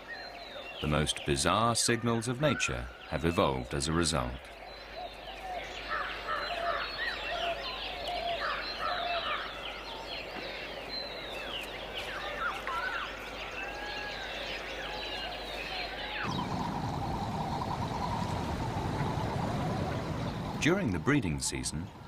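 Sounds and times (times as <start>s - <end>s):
chorus of birds calling: 0.0s - 22.0s.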